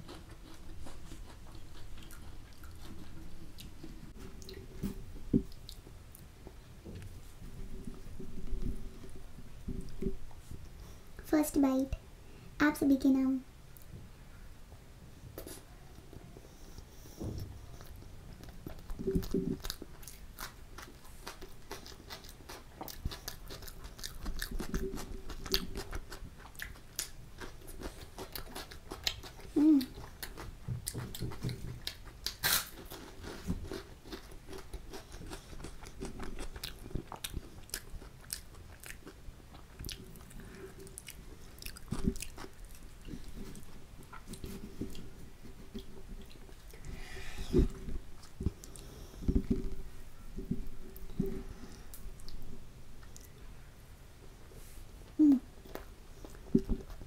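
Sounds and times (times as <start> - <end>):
person chewing with mouth sounds: 0.0 - 10.7, 17.2 - 53.4, 55.1 - 57.0.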